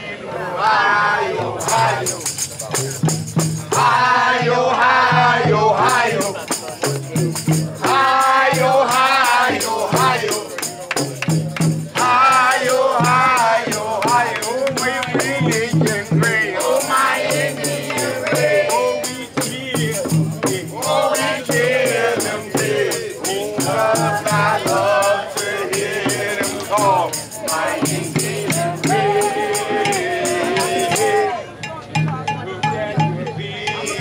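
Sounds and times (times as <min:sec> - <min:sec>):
voices singing and chanting: 0:00.0 - 0:34.0
hand drum rhythm: 0:01.5 - 0:31.3, 0:31.9 - 0:34.0
tambourines and shakers rattling: 0:01.6 - 0:03.9, 0:05.8 - 0:31.3.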